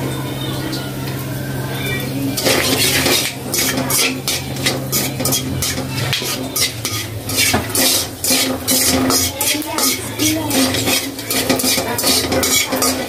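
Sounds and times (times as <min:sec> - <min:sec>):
oil sizzling: 0:00.0 - 0:13.0
metal spatula scraping spices in pan: 0:02.4 - 0:13.0.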